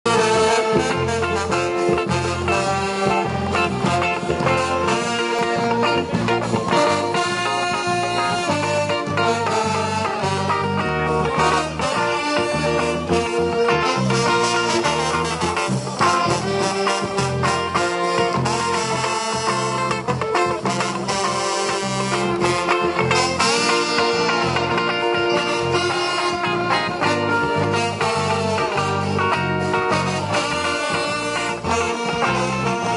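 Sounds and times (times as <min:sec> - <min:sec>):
brass band playing: 0:00.0 - 0:32.9.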